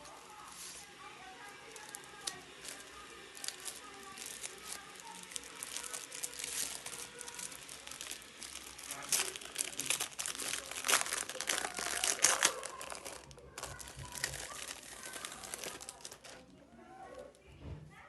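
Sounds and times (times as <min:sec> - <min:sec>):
packaging crinkling: 0:00.0 - 0:17.4.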